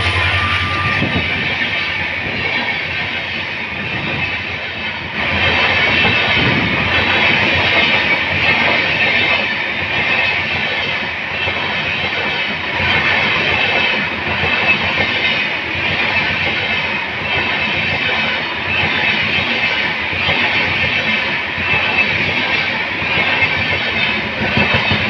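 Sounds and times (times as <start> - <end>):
train rushing past: 0.0 - 25.0.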